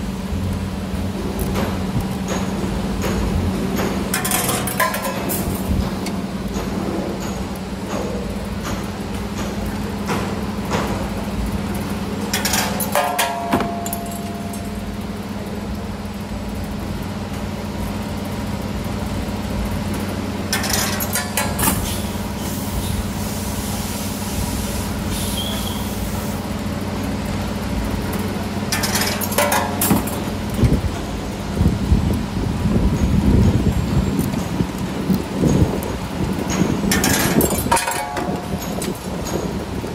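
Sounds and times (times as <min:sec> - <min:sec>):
steady machine hum: 0:00.0 - 0:25.1, 0:25.8 - 0:39.9.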